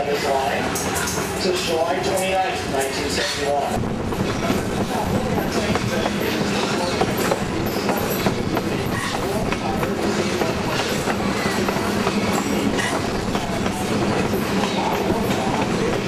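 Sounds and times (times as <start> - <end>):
rail joint clicks: 0.0 - 16.0
train wheels rumbling on rails: 0.0 - 16.0.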